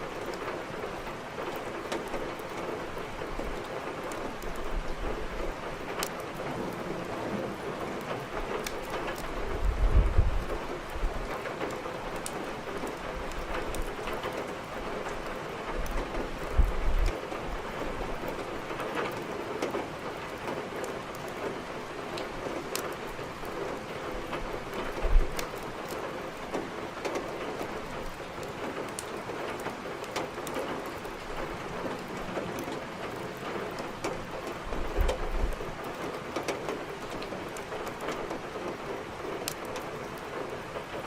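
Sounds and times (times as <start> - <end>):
heavy rain falling: 0.0 - 41.0
wood fire crackling: 0.1 - 6.8, 7.5 - 41.0.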